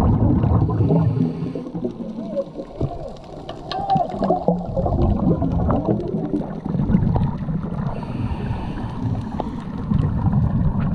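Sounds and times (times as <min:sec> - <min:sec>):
underwater water sloshing and bubbling: 0:00.0 - 0:10.9.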